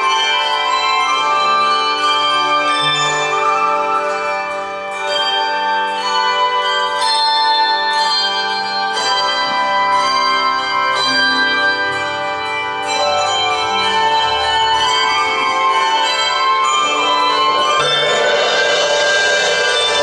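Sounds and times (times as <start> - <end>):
handbell choir playing chords: 0.0 - 20.0.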